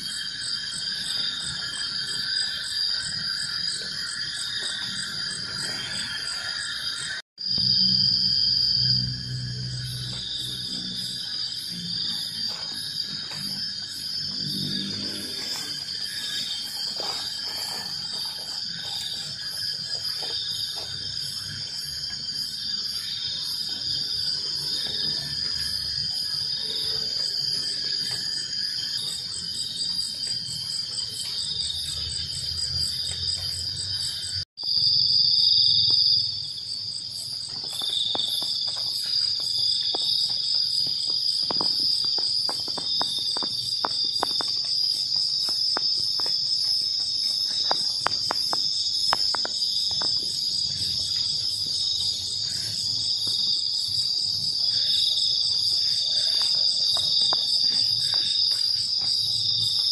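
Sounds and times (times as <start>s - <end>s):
crickets and insects chirring: 0.0s - 59.9s
fast pulsing insect call: 0.0s - 59.9s.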